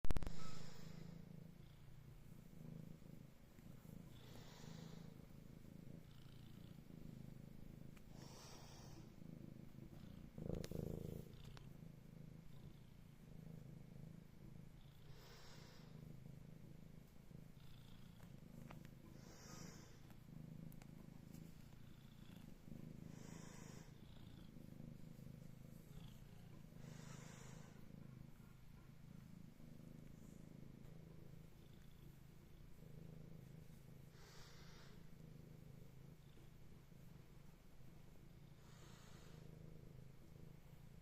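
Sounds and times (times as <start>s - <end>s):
cat purring: 0.0s - 41.0s.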